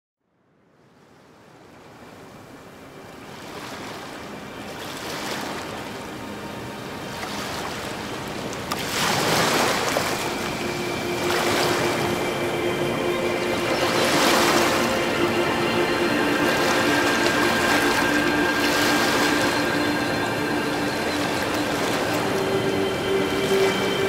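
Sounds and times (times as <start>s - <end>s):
rushing surf-like wash: 1.3s - 24.0s.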